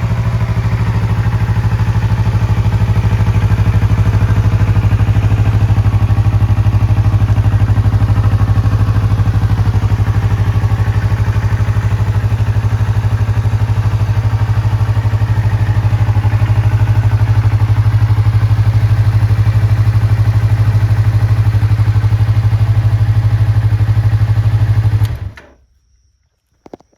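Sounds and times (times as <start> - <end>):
motorcycle engine idling: 0.0 - 25.4.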